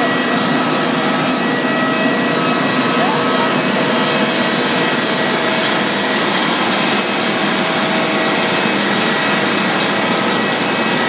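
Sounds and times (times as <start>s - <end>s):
machinery rushing: 0.0s - 11.0s
whining tones: 0.0s - 11.0s.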